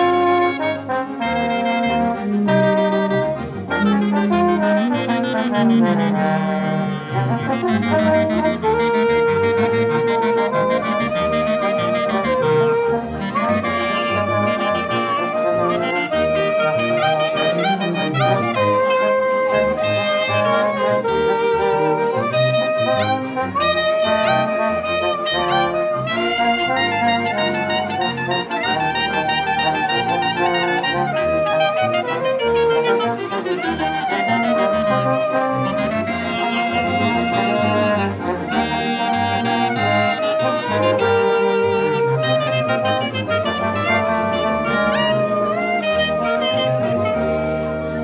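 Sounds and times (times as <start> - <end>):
small ensemble playing a hymn: 0.0 - 48.0.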